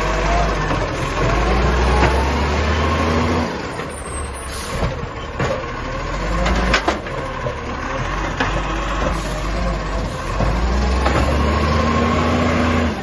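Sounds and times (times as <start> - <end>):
garbage truck diesel engine: 0.0 - 13.0.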